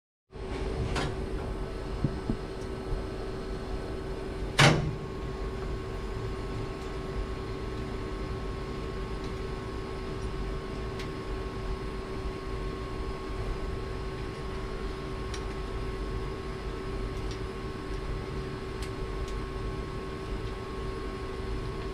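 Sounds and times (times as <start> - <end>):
machine hum: 0.3 - 21.9.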